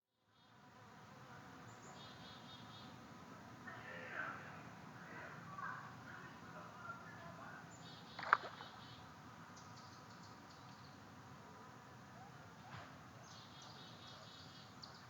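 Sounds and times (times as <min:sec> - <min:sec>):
faint outdoor hiss: 0:00.1 - 0:15.0.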